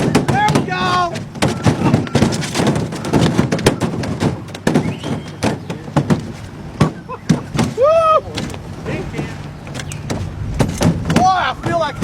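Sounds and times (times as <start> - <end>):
boat and water noise: 0.0 - 12.0
fish thumping against boat: 0.0 - 12.0.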